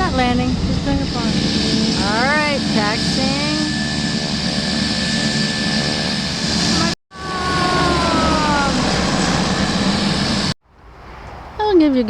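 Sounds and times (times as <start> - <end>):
turboprop engines whining: 0.0 - 10.6.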